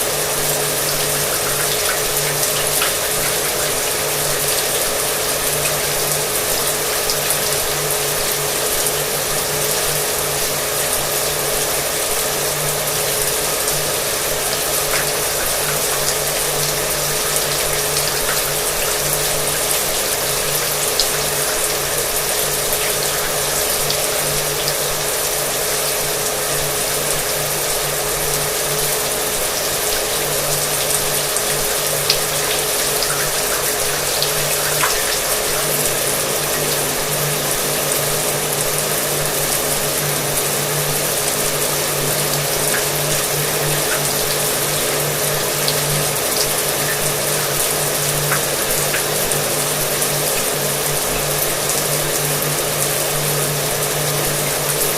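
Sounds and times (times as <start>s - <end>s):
shower water running: 0.0s - 54.9s.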